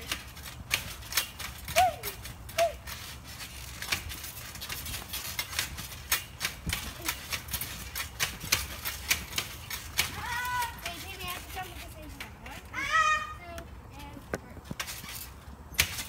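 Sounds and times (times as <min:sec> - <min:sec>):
trampoline springs creaking and clicking: 0:00.0 - 0:16.0.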